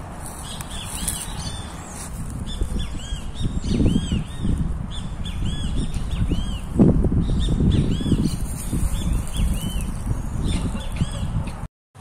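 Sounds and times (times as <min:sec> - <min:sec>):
low rumbling on microphone: 0:00.0 - 0:11.7
birds chirping: 0:00.2 - 0:11.6.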